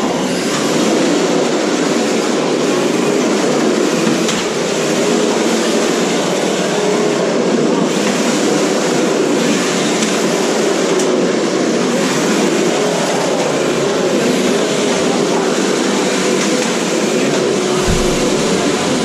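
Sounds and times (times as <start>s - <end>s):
rc cars motor and tyre noise: 0.0s - 19.0s.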